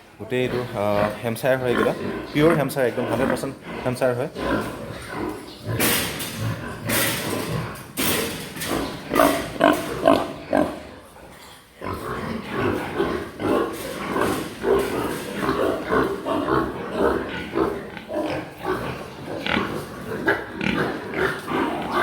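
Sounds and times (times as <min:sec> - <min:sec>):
pigs grunting: 0:00.0 - 0:22.0
pigs crying harshly: 0:00.3 - 0:11.0, 0:11.8 - 0:22.0.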